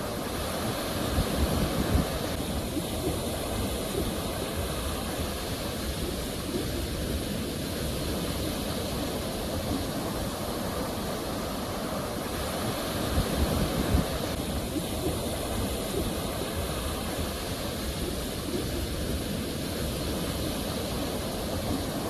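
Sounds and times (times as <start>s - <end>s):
waves breaking and washing ashore: 0.0s - 22.0s.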